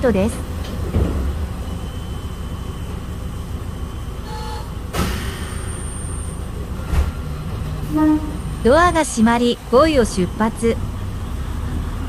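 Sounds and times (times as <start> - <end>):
railcar engine idling: 0.0 - 12.0.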